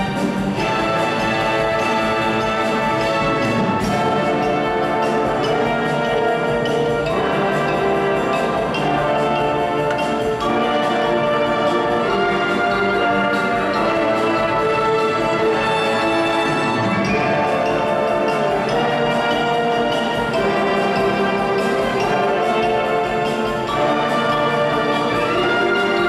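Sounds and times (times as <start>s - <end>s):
orchestra playing classical music: 0.0s - 26.0s.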